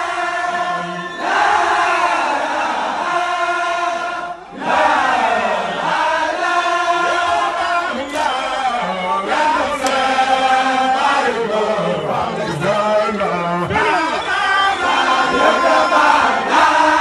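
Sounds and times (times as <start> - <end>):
crowd of men chanting: 0.0 - 17.0
man leading chant: 0.0 - 17.0.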